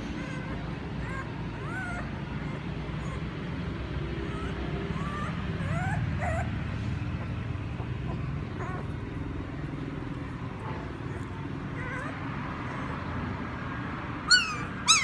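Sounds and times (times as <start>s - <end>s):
puppies whimpering and crying: 0.0s - 15.0s.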